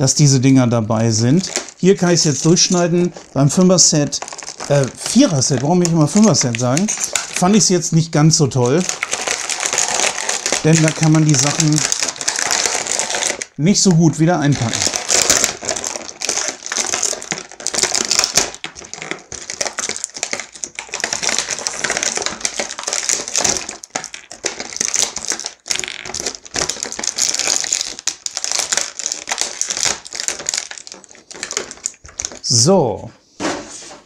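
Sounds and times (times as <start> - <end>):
plastic packaging crinkling: 0.9 - 32.7.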